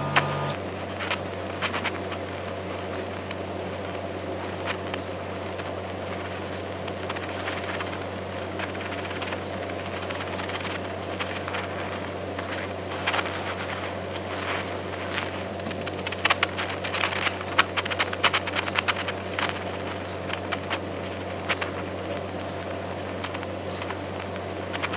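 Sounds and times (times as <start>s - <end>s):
electrical hum: 0.0s - 24.9s
welding arc crackling: 0.0s - 24.9s.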